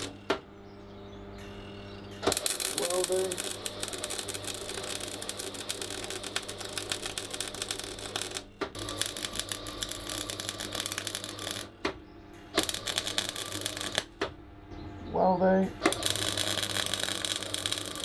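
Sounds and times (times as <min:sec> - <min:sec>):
welder arc crackling and sizzling: 0:00.0 - 0:00.4, 0:02.2 - 0:11.9, 0:12.5 - 0:14.4, 0:15.6 - 0:18.0
steady low hum: 0:00.0 - 0:18.0.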